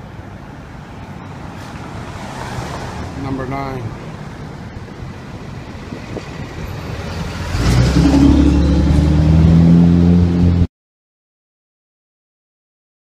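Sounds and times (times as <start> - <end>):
diesel truck engine drone: 0.0 - 10.7
street traffic: 0.0 - 10.7.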